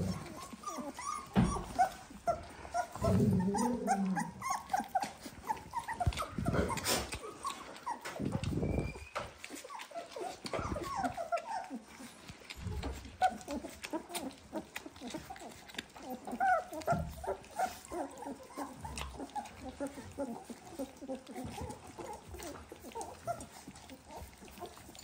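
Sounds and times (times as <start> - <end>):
puppies squeaking and whimpering: 0.0 - 25.0
puppy drawn-out whine: 0.0 - 25.0.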